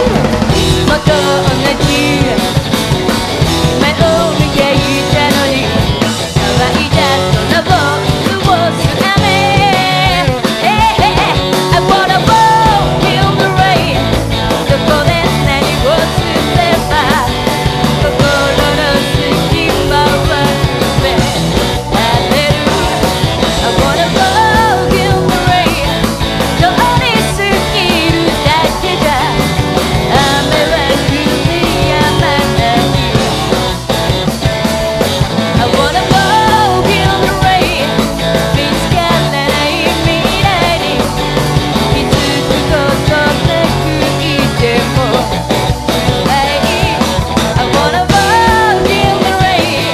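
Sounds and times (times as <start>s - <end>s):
person singing: 0.0s - 33.7s, 35.4s - 49.9s
drums: 0.0s - 49.9s
rock band playing live: 0.0s - 49.9s.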